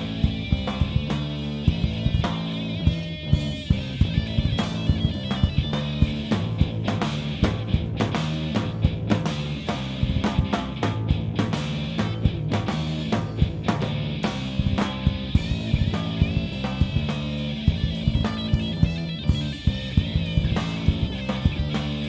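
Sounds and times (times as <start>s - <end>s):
bass guitar: 0.0s - 22.0s
drum kit beat: 0.0s - 22.0s
electric guitar: 0.0s - 22.0s.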